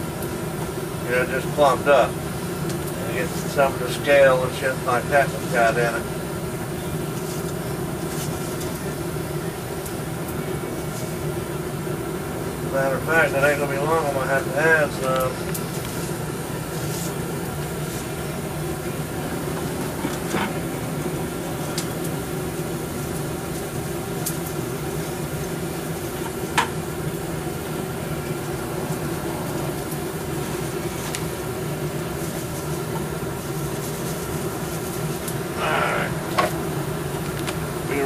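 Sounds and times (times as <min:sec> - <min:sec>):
workshop machinery droning: 0:00.0 - 0:38.0.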